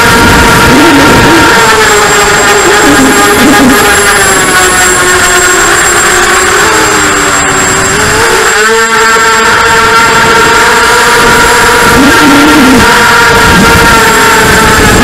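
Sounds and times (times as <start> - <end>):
quadcopter motors buzzing whine: 0.0 - 15.0.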